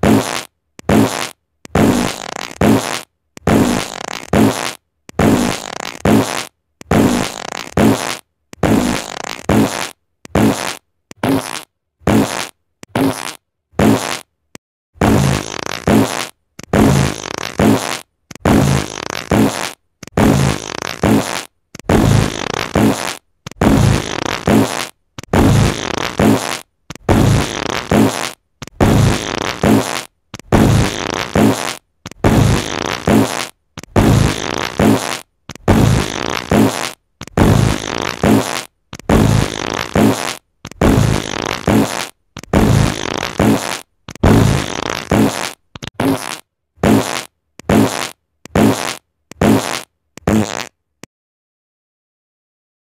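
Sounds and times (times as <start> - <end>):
fart sound effect: 0.0 - 14.3, 15.0 - 50.8.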